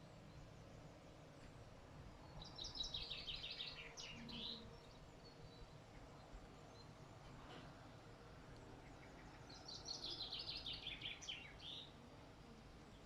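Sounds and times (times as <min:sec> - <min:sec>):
faint background noise: 0:00.0 - 0:13.0
songbird singing: 0:00.0 - 0:13.0.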